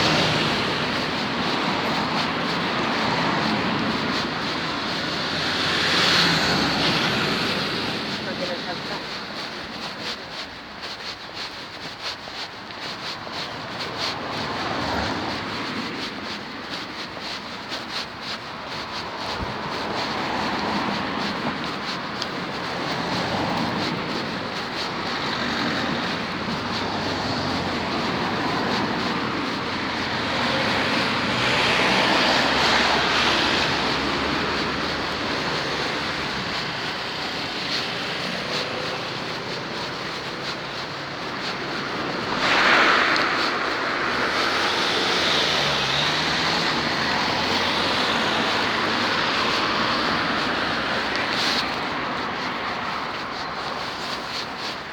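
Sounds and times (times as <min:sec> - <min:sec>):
road traffic with vehicles passing: 0:00.0 - 0:54.9.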